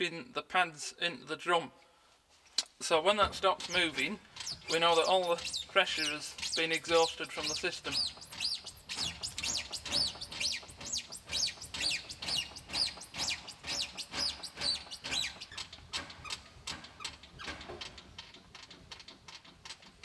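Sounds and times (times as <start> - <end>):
brake pedal linkage squeaking: 3.4 - 20.0.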